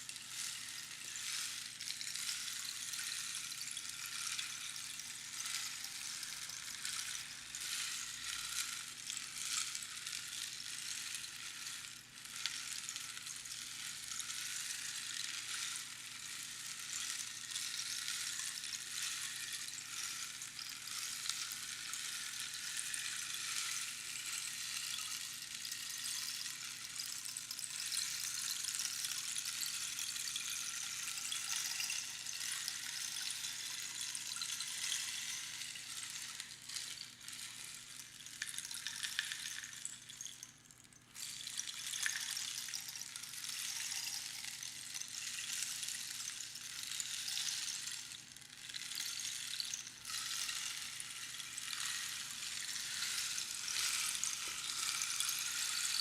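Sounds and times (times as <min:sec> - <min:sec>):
rainstick pebbles trickling: 0:00.0 - 0:56.0.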